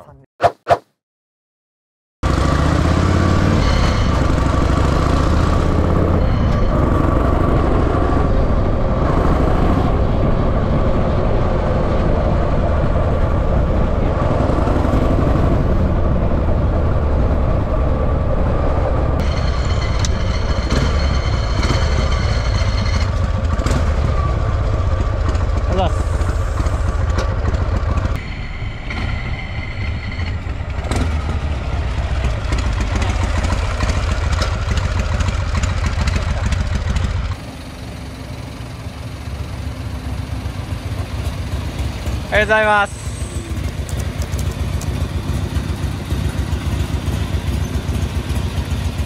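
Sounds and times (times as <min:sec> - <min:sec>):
motorcycle engine rumbling: 0:02.2 - 0:49.0.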